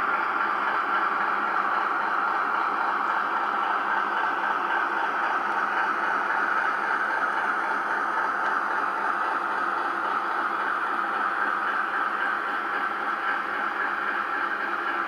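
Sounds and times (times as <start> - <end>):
model train wheels rolling: 0.0 - 15.0.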